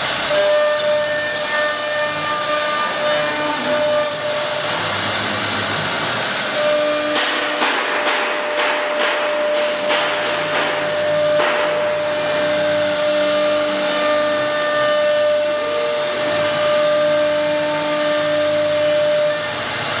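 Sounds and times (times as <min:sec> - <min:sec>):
router bit cutting wood: 0:00.0 - 0:20.0
wood router spindle whine: 0:00.0 - 0:20.0.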